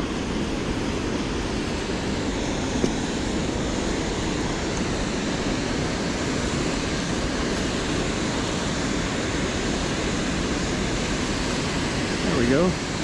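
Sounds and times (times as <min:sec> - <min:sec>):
water roaring over a dam: 0:00.0 - 0:13.0.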